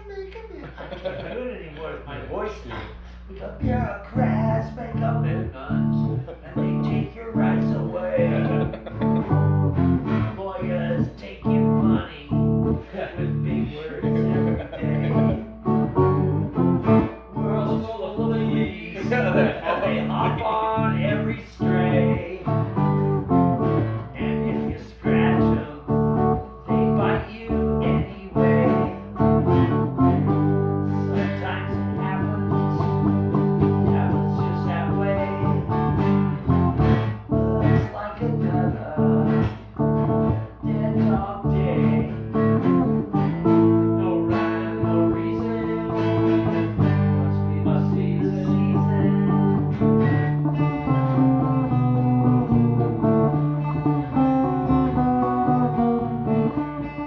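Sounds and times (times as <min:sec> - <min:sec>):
electric guitar chords strummed: 0:02.8 - 0:57.0.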